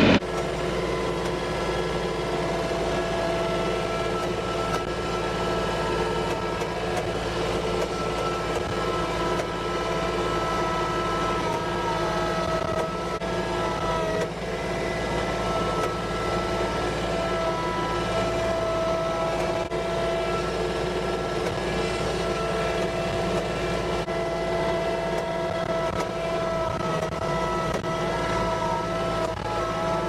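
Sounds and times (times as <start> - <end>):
steady whining tones: 0.0 - 30.0
vehicle engine rumbling: 0.0 - 30.0.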